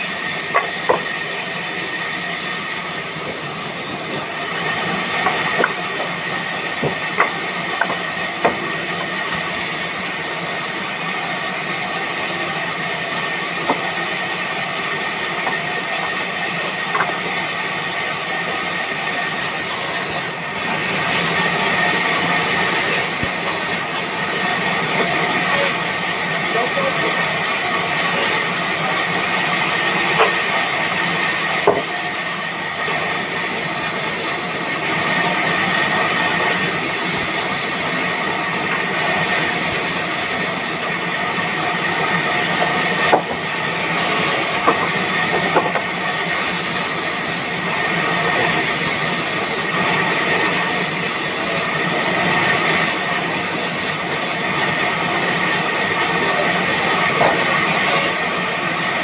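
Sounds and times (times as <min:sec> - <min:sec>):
high-pitched saw cutting: 0:00.0 - 0:11.2, 0:11.8 - 0:34.8, 0:36.0 - 0:41.1, 0:42.0 - 0:44.7, 0:46.0 - 0:51.8, 0:52.6 - 0:59.0
band sawmill running: 0:00.0 - 0:59.0.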